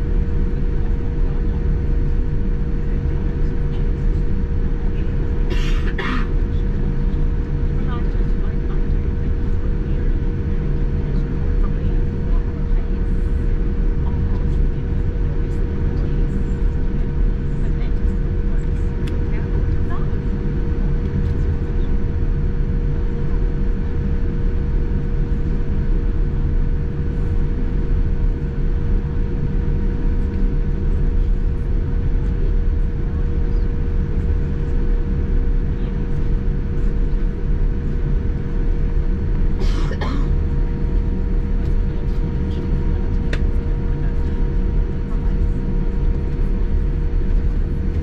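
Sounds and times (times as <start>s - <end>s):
jet airliner rumble: 0.0s - 48.0s
mid-pitched hum: 0.0s - 48.0s.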